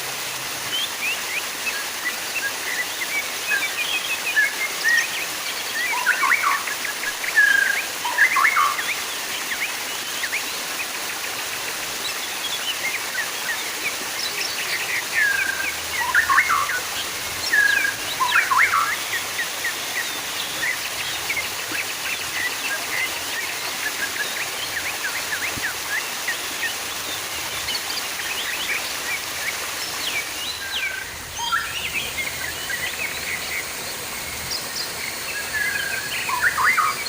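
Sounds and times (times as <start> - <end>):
running water: 0.0 - 37.0
small birds chirping: 0.7 - 37.0.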